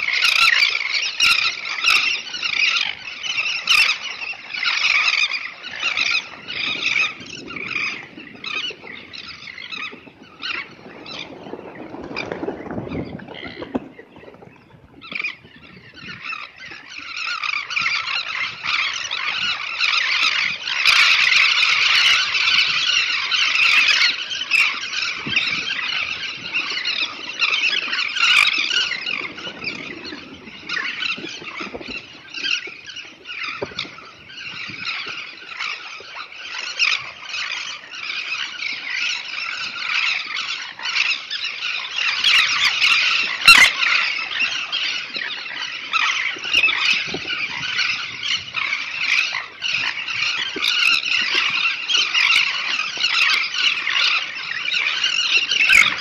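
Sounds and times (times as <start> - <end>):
flock of terns calling: 0.0 - 56.0.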